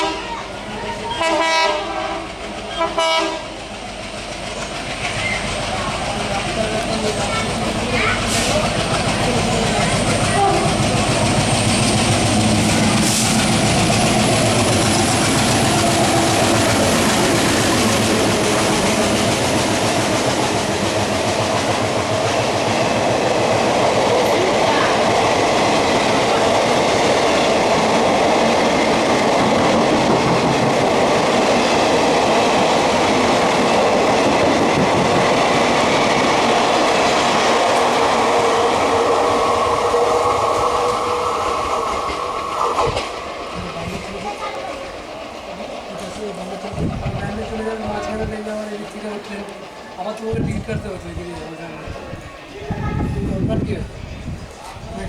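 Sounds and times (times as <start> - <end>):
train wheel and rail noise: 0.0 - 55.0.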